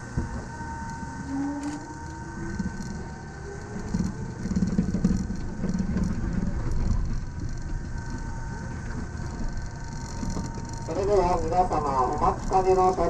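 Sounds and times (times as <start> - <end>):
steady high hum: 0.0 - 13.0
train rumbling and rattling: 0.0 - 13.0.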